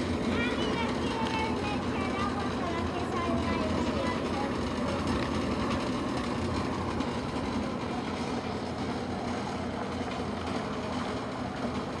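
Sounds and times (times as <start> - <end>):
electric corn mill drone: 0.0 - 12.0.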